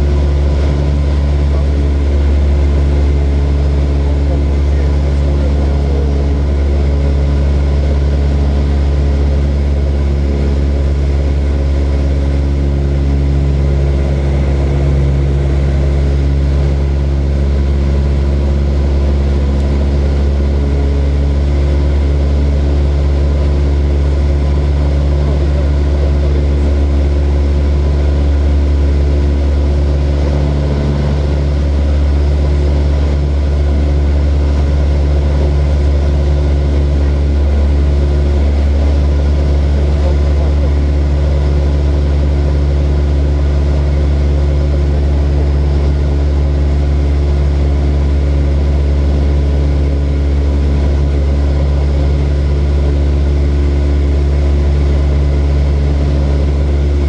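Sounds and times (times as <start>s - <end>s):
propeller aeroplane engine drone: 0.0s - 57.0s.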